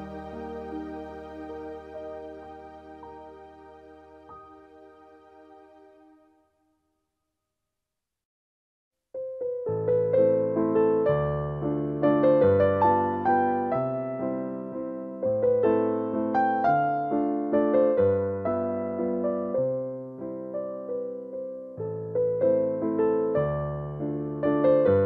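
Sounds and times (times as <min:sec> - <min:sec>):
gentle piano melody: 0:00.0 - 0:06.2, 0:09.2 - 0:25.0.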